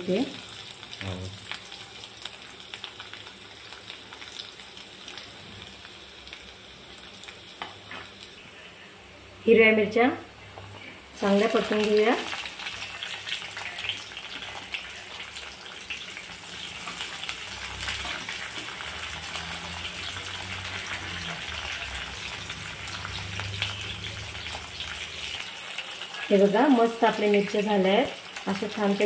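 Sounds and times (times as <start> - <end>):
chillies sizzling in hot oil: 0.0 - 29.0.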